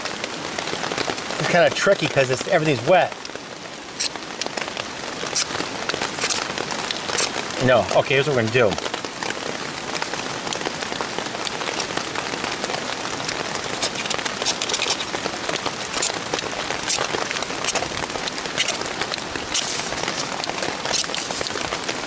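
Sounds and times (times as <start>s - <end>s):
heavy rain on a shelter: 0.0s - 22.0s.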